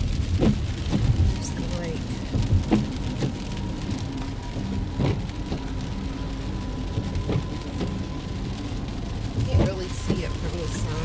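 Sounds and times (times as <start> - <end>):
heavy rain on a vehicle: 0.0 - 11.0.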